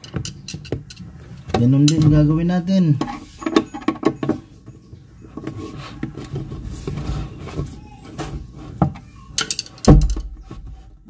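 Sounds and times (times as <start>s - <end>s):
low scraping and handling noise: 0.0s - 11.0s.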